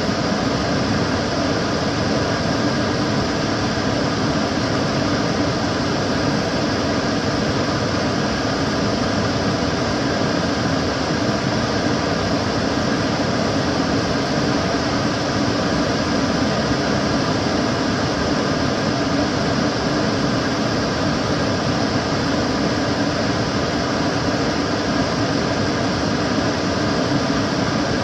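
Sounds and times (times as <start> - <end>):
extractor fan running: 0.0 - 28.0.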